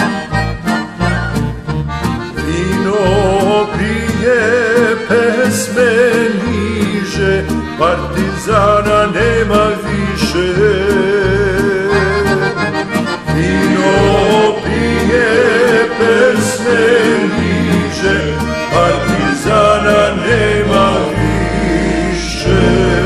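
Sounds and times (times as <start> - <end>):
regular beats: 0.0 - 10.0, 11.6 - 23.0
accordion melody: 0.0 - 23.0
bass line: 0.0 - 23.0.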